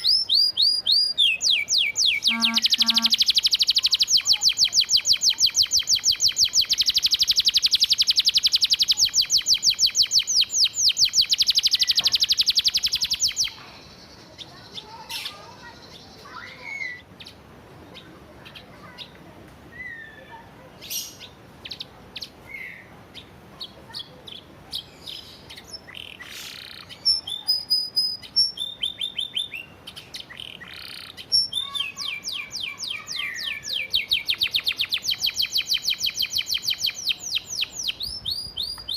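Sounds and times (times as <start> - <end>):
canary singing: 0.0 - 19.2, 19.8 - 38.9.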